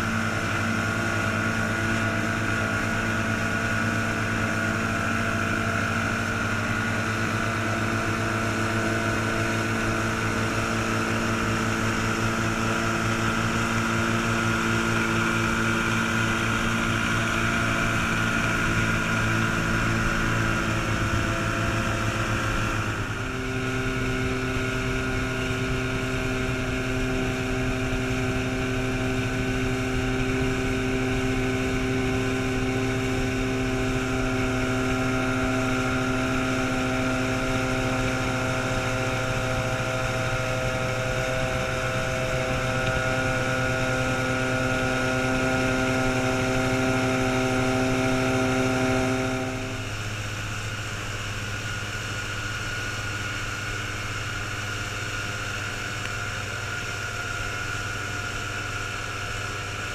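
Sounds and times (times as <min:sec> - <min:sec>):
outboard motors running: 0:00.0 - 0:59.9.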